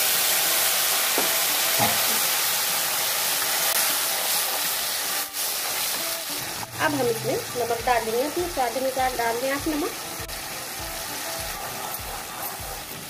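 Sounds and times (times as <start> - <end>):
tomato puree sizzling in oil: 0.0 - 13.0.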